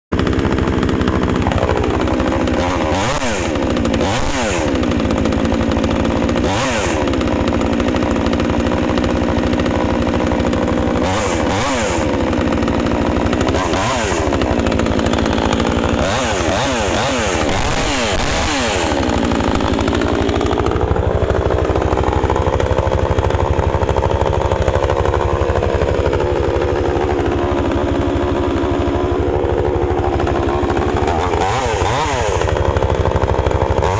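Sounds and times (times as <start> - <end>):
chainsaw engine revving: 0.1 - 33.9.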